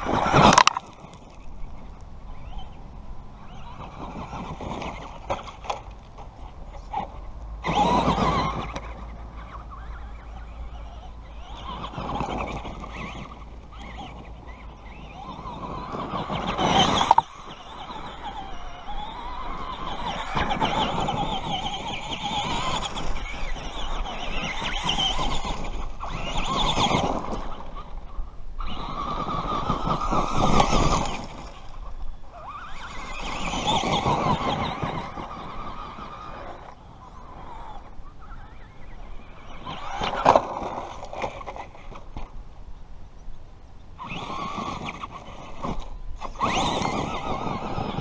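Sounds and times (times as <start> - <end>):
rough gritty noise: 0.0 - 2.7, 3.5 - 42.5, 44.0 - 48.0
tyres churning through dirt: 0.0 - 42.8, 43.9 - 48.0
rc truck motor whining: 0.0 - 43.3, 43.9 - 48.0.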